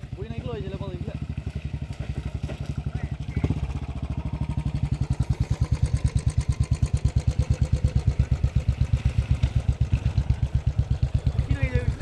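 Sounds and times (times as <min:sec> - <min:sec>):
vehicle engine pulsing steadily: 0:00.0 - 0:12.0.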